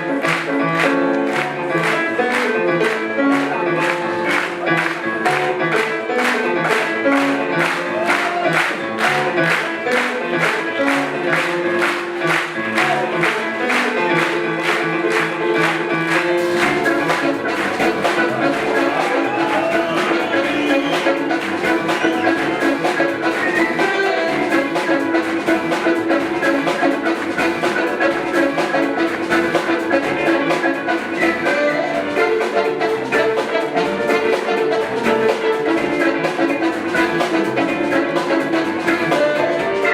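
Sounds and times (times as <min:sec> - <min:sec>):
bass guitar: 0:00.0 - 0:39.9
jazz fusion band with horns: 0:00.0 - 0:39.9.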